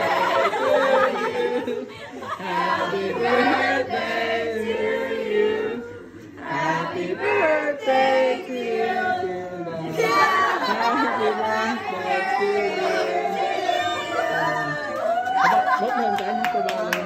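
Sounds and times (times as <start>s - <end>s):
group of voices singing: 0.0s - 14.9s.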